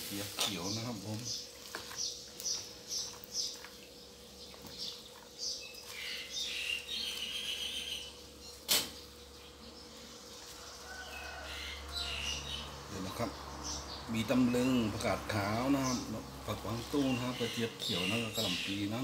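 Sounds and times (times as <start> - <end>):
faint steady hum: 0.0 - 19.0
small birds chirping: 0.2 - 19.0.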